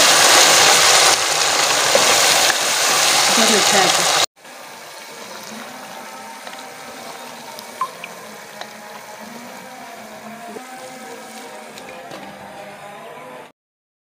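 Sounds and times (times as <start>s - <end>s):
curry simmering in a pot: 0.6s - 11.9s.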